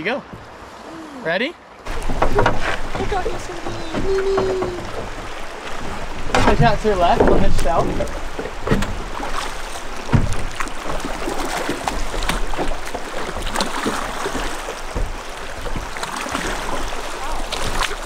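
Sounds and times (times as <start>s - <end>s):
oars knocking: 0.0s - 0.9s, 1.9s - 18.0s
water rushing and splashing: 0.0s - 18.0s.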